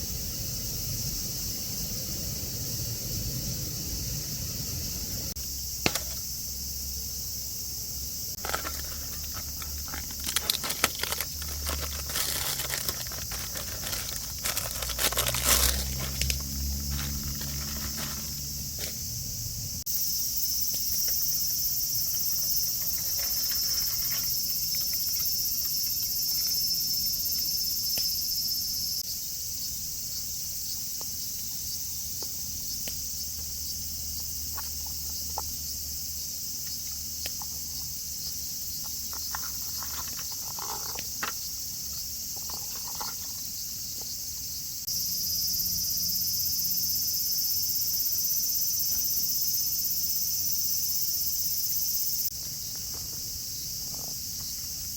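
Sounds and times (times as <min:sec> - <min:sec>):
insects chirring: 0:00.0 - 0:54.9.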